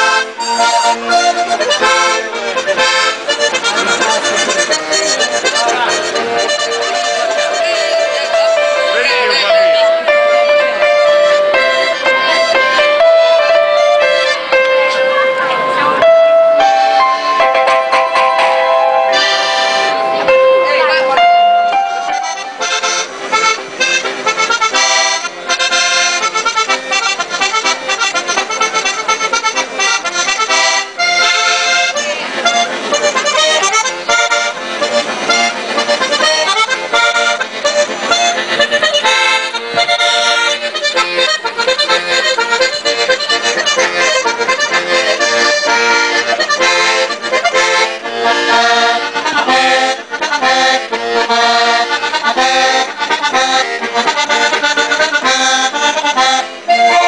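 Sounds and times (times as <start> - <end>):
button accordion playing lively tune: 0.0 - 57.0.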